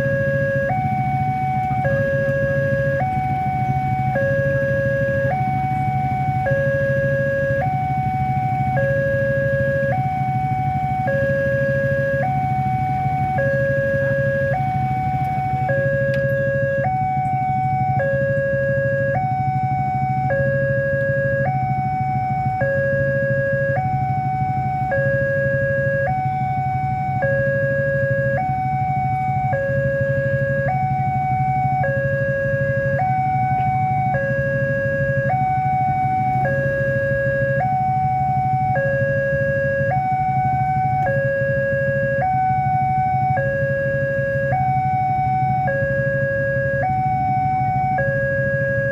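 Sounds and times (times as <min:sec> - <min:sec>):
steady low hum: 0:00.0 - 0:48.9
two-tone crossing alarm: 0:00.0 - 0:48.9.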